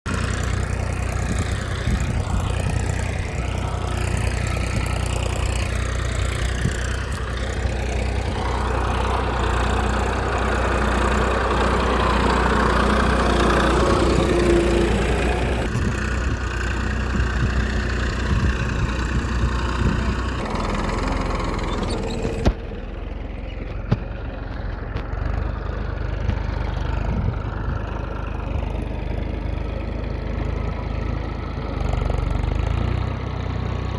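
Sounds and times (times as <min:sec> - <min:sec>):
small engine idling: 0:00.1 - 0:33.9.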